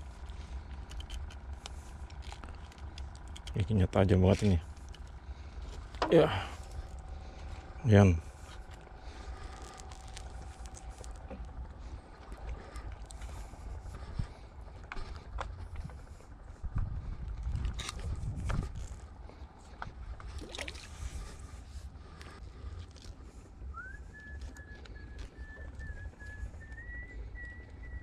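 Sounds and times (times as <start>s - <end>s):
small boat rumble: 0.0s - 28.0s.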